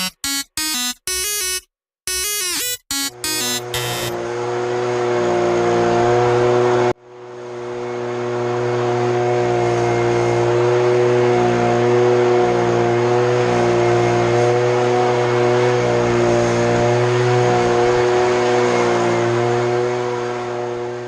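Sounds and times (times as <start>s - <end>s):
small petrol engine running: 0.0s - 21.0s.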